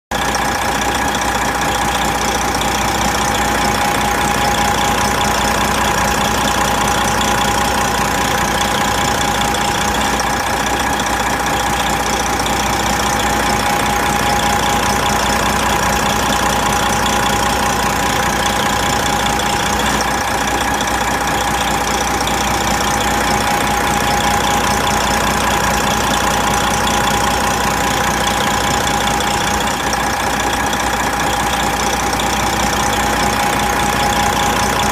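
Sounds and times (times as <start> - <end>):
truck diesel engine idling: 0.1 - 34.9.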